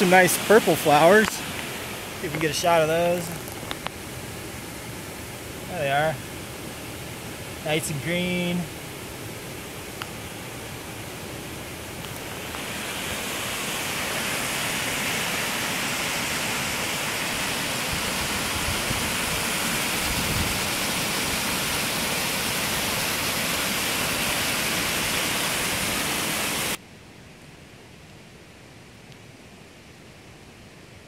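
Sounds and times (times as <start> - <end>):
waterfall rushing: 0.0 - 26.8.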